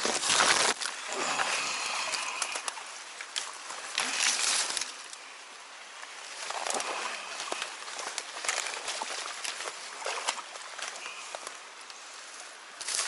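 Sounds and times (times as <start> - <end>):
plants rustling: 0.0 - 13.0.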